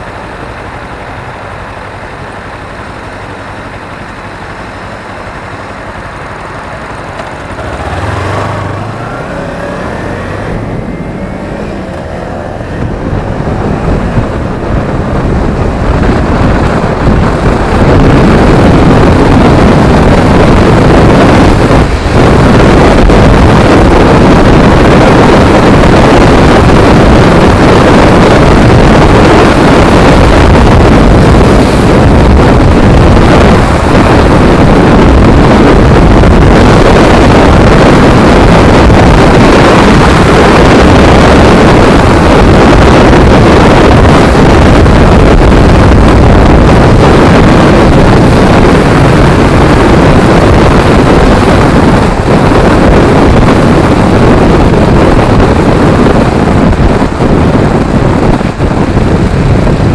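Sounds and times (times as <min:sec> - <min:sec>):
motorcycle running: 0:00.0 - 0:59.9
wind buffeting microphone: 0:02.6 - 0:59.9.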